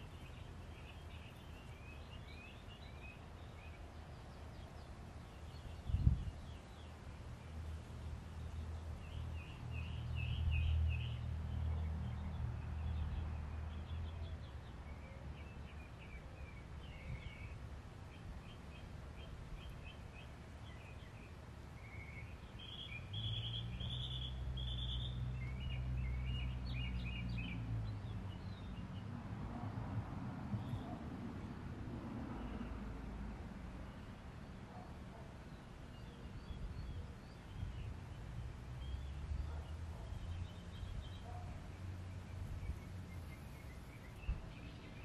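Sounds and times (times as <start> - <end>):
small birds chirping and trilling: 0.0 - 29.1, 30.5 - 31.5, 33.8 - 45.0.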